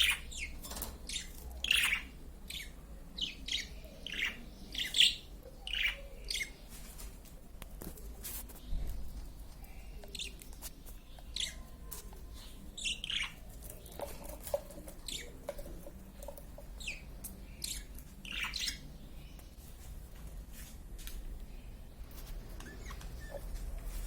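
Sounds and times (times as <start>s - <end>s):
small birds chirping: 0.0s - 20.2s, 21.2s - 24.0s.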